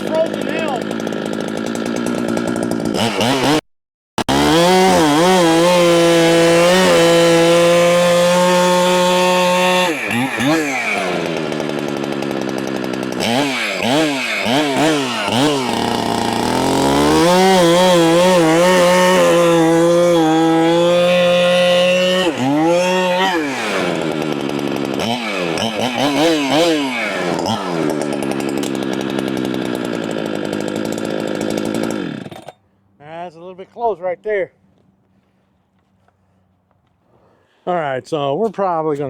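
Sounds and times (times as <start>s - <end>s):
chainsaw revving: 0.0s - 3.6s, 4.2s - 32.6s.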